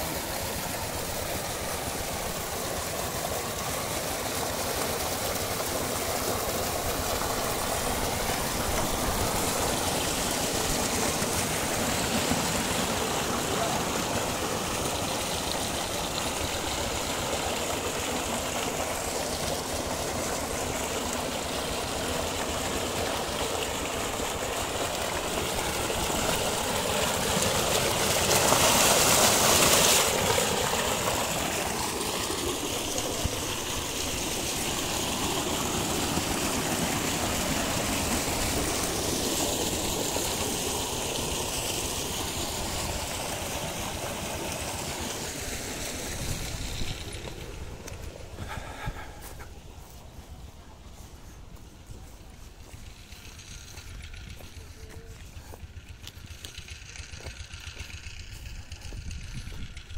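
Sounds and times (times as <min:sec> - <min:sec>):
water gushing into tank: 0:00.0 - 0:50.3.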